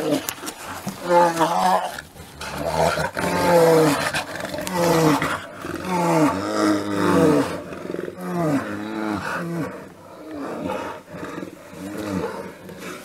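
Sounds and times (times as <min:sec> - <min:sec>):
bears roaring and growling: 0:00.0 - 0:13.0.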